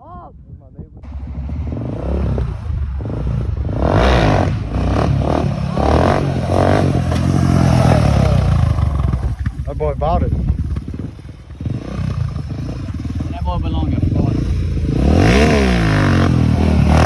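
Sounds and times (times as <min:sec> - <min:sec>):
motorcycle engine revving: 0:01.0 - 0:17.0.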